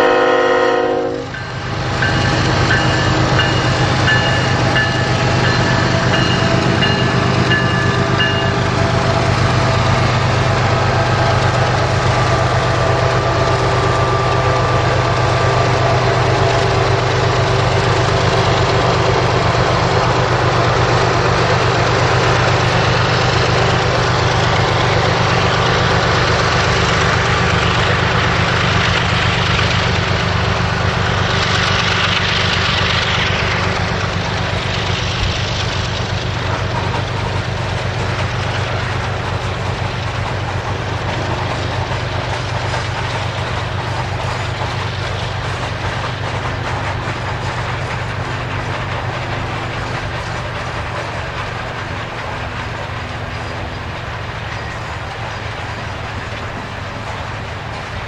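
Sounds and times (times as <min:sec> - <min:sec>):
diesel locomotive engine drone: 0:00.0 - 0:58.0
freight cars rolling: 0:00.0 - 0:58.0.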